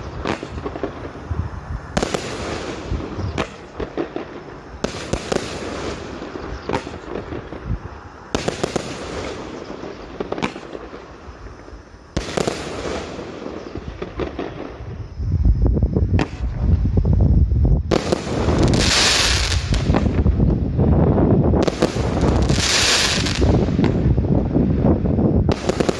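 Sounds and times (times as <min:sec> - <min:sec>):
heavy firework booms: 0:00.0 - 0:11.1, 0:12.1 - 0:17.1, 0:17.8 - 0:25.9
firework reports: 0:00.0 - 0:17.0, 0:17.8 - 0:25.9
crackling hiss of fireworks: 0:00.0 - 0:25.9.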